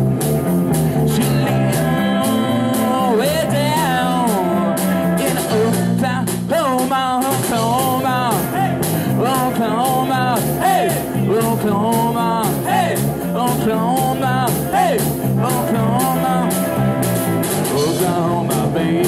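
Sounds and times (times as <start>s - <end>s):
guitar: 0.0s - 19.0s
steady drum beat: 0.0s - 19.0s
walking electric bass line: 0.0s - 19.0s
man singing: 0.9s - 19.0s.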